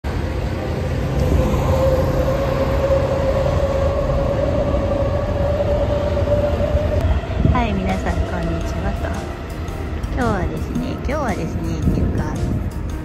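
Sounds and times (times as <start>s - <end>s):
train rumbling over viaduct: 0.0s - 13.0s
train whine: 0.0s - 13.0s.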